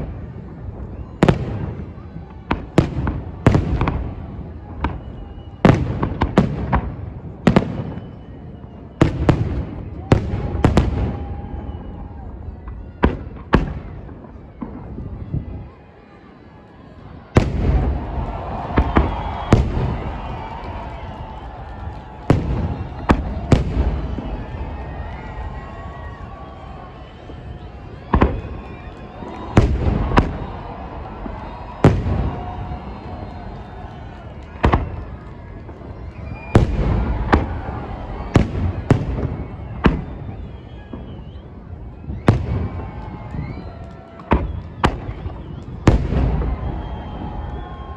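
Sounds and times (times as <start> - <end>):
fireworks bursting with bangs: 0.0 - 15.4, 17.3 - 47.9.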